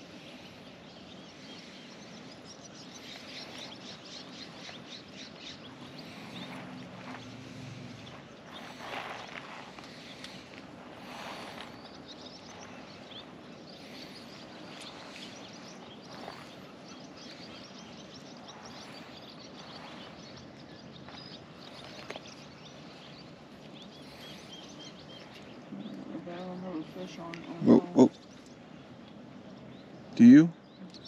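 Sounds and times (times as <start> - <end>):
small birds chirping: 0.0 - 31.0
steady background hiss: 0.0 - 31.0.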